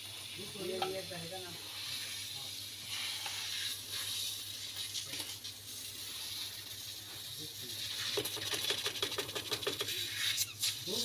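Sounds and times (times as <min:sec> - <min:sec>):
refrigerant hissing through hose: 0:00.0 - 0:11.0.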